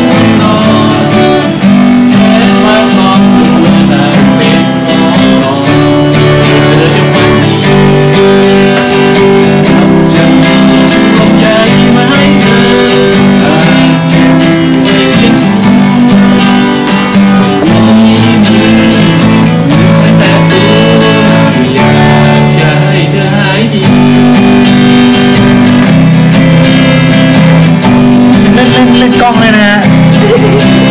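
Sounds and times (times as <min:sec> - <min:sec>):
acoustic guitar strumming: 0:00.0 - 0:30.9.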